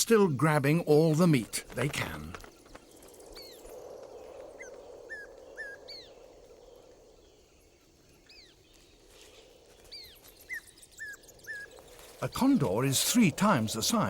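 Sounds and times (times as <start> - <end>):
bird calls rising and falling: 0.6 - 14.0.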